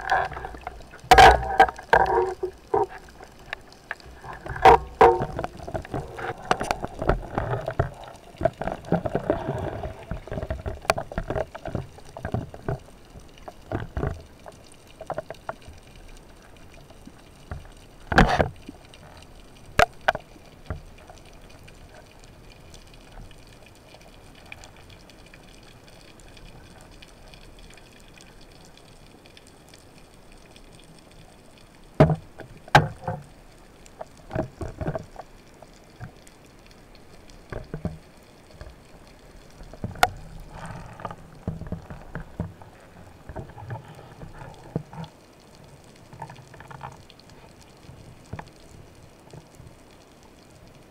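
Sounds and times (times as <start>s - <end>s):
underwater clicks and knocks: 0.0s - 23.6s, 31.6s - 49.8s
faint steady hiss: 0.0s - 50.9s
rushing water: 0.0s - 50.9s.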